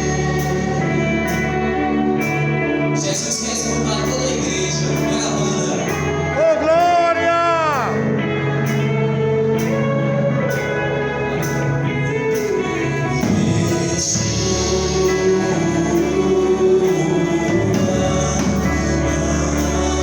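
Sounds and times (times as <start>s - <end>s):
band playing gospel music: 0.0s - 20.0s
people singing: 0.0s - 20.0s.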